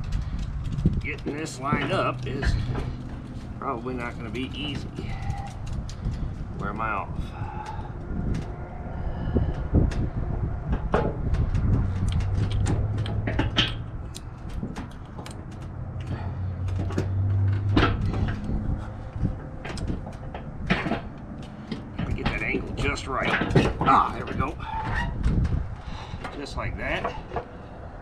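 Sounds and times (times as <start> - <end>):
low hum: 0.0 - 23.6.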